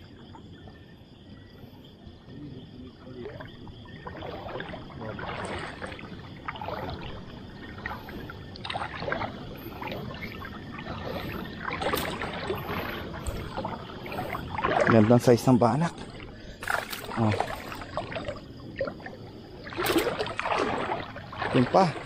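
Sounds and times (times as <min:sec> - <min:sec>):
water splashing and dripping: 0:02.3 - 0:22.0.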